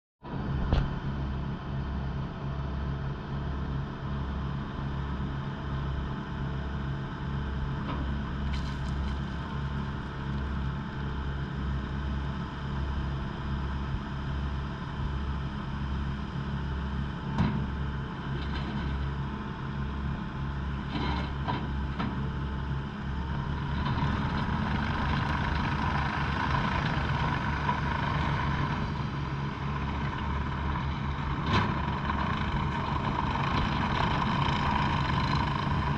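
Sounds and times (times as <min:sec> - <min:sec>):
diesel engine idling: 0:00.4 - 0:35.9.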